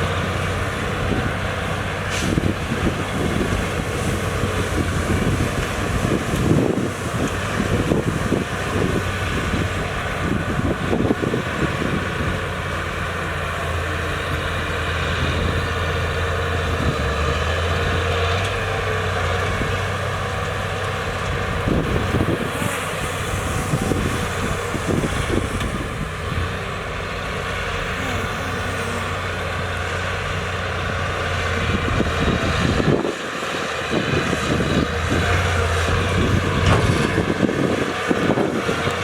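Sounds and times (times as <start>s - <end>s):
diesel machinery engine running: 0.0s - 39.0s.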